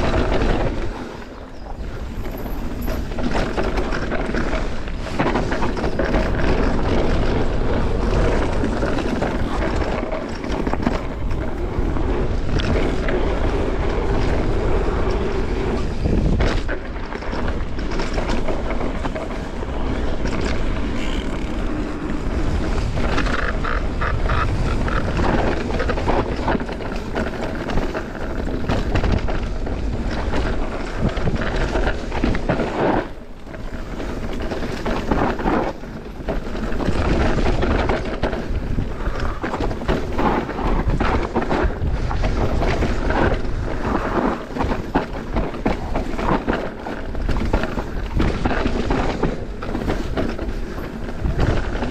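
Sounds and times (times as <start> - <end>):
bike knocking and rattling: 0.0 - 51.9
bike tyres rolling over dirt: 0.0 - 51.9
wind buffeting microphone: 0.0 - 51.9.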